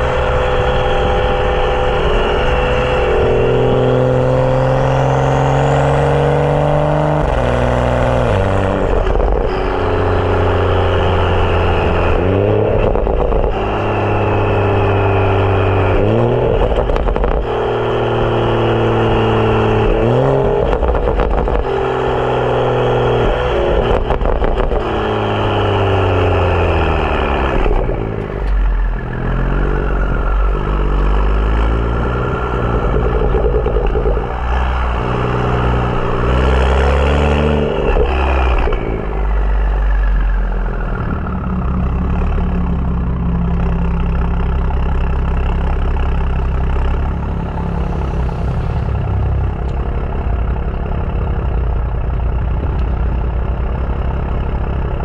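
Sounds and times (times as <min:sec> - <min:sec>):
car engine revving and idling: 0:00.0 - 0:55.0.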